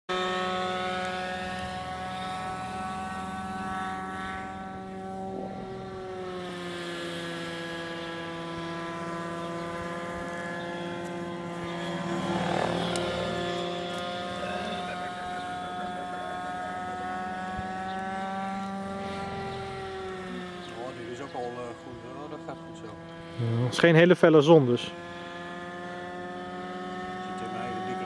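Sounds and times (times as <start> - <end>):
model aircraft engine droning: 0.1 - 28.0.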